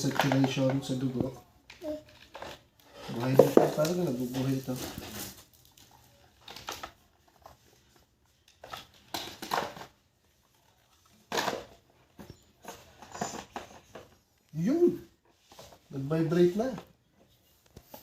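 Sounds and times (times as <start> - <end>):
rustling and handling noises: 0.0 - 18.0.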